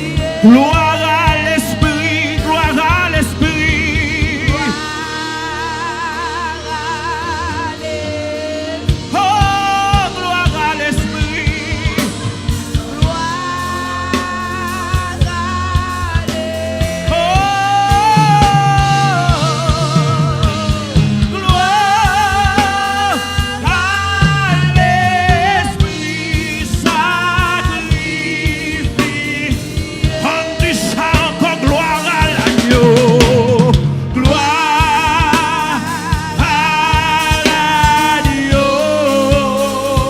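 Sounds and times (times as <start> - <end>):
band playing worship music: 0.0 - 40.0
drum kit steady beat: 0.0 - 40.0
person singing with vibrato: 0.0 - 40.0.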